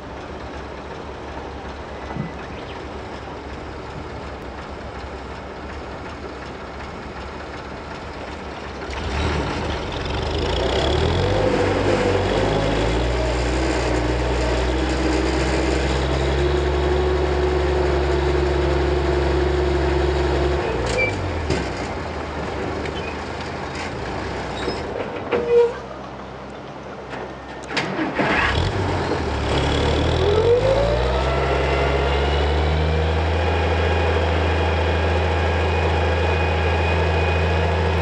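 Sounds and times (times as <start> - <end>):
engine running drone: 0.0 - 38.0.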